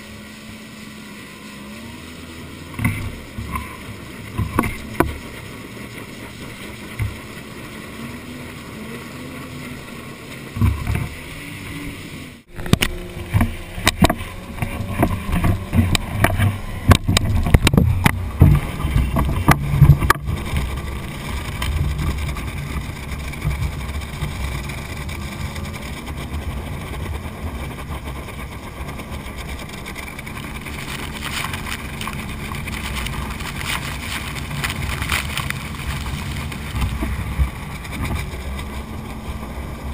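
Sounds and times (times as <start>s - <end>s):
boat engine drone: 0.0s - 39.9s
water rushing: 0.0s - 39.9s
water splashing against hull: 0.0s - 39.9s.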